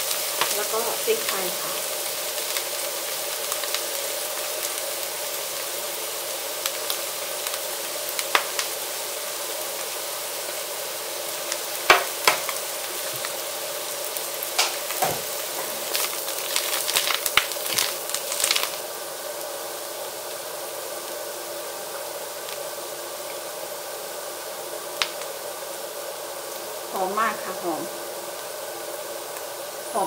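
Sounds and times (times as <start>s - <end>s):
mushrooms sizzling in a pan: 0.0s - 30.0s.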